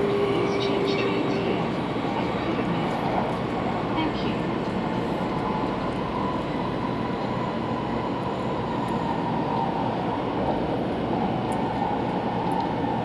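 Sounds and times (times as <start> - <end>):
train cabin rumble: 0.0 - 11.1.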